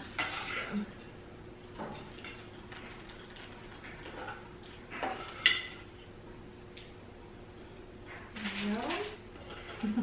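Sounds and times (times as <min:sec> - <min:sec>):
utensils tapping and scraping pot: 0:00.0 - 0:06.1, 0:08.0 - 0:10.0.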